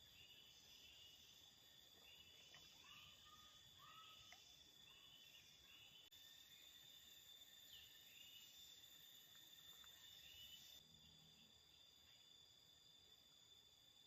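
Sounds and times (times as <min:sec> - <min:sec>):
high-pitched insect drone: 0:00.0 - 0:11.4.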